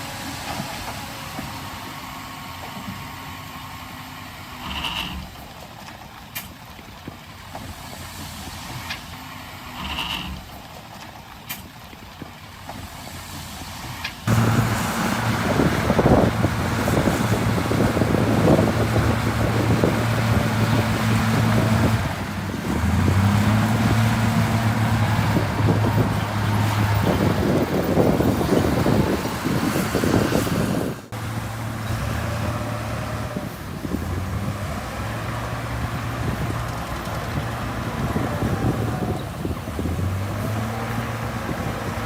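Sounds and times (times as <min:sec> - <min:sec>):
heavy diesel engine under load: 0:00.0 - 0:42.0.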